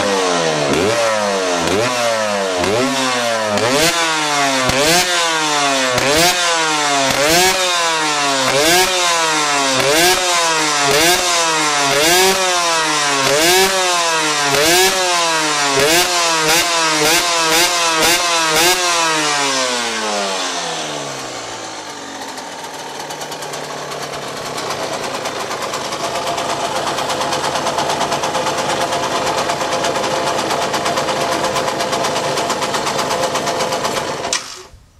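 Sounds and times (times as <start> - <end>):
motorcycle engine revving: 0.0 - 34.7.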